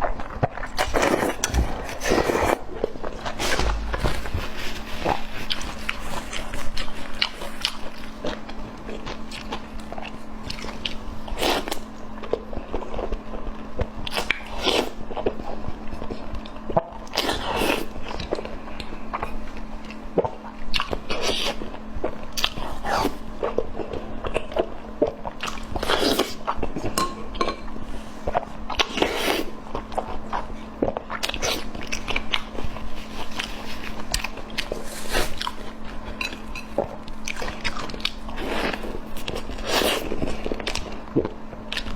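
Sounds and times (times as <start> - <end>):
person chewing crunchy food: 0.0 - 41.9
steady low hum: 0.0 - 41.9.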